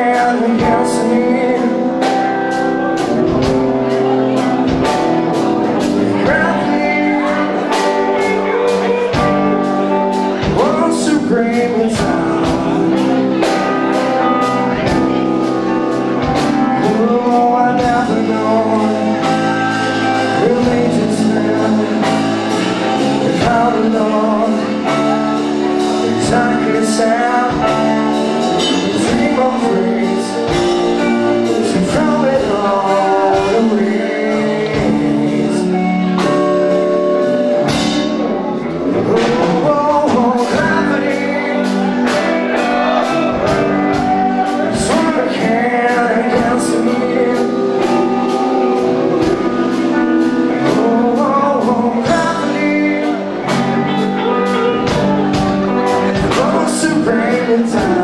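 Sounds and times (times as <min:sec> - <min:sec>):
distorted electric guitars: 0:00.0 - 0:58.0
drum kit: 0:00.0 - 0:58.0
electric bass: 0:00.0 - 0:58.0
man singing: 0:00.0 - 0:58.0.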